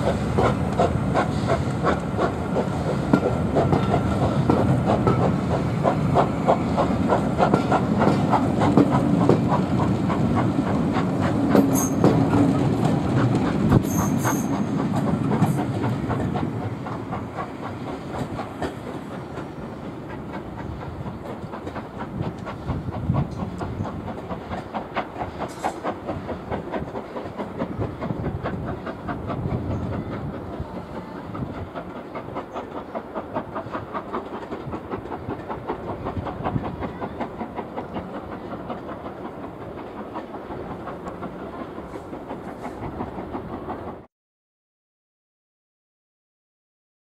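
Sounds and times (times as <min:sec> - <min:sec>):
faint locomotive steam exhaust: 0:00.0 - 0:44.1
train rumble: 0:00.0 - 0:44.1
wheels clickety-clack over rail joints: 0:00.0 - 0:44.1.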